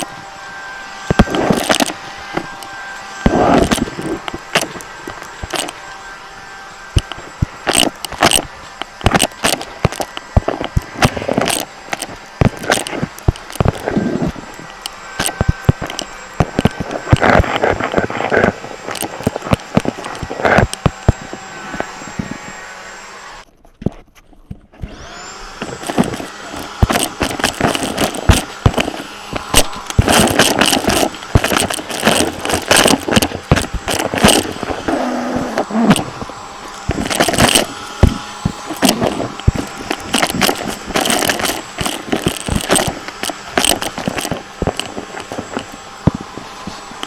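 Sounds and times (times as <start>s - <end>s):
vacuum cleaner motor whine: 0.0s - 23.5s, 24.7s - 47.0s
debris clicking and rattling: 6.9s - 22.7s, 23.5s - 47.0s.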